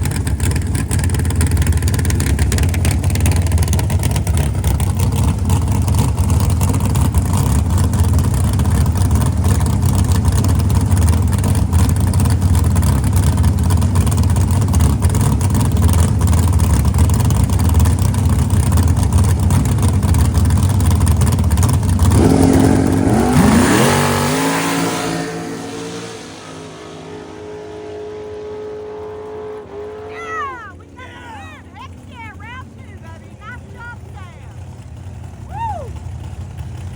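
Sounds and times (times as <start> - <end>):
car engine running hard: 0.0 - 36.9.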